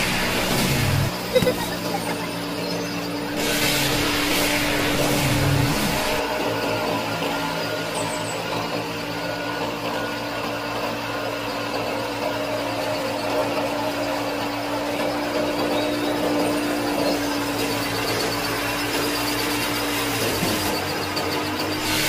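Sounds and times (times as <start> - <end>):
small electric motor whirring: 0.0 - 22.0.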